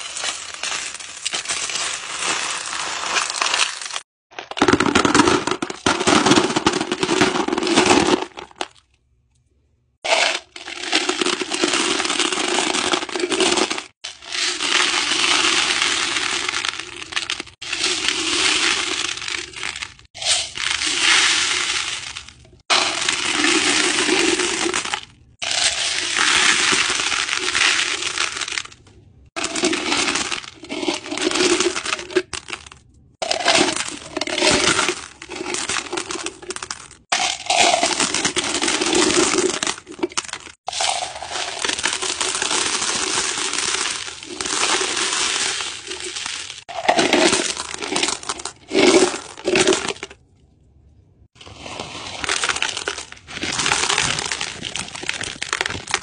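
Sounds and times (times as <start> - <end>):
stones rattling into a bowl: 0.0 - 8.8, 10.1 - 28.8, 29.4 - 50.2, 51.4 - 56.0.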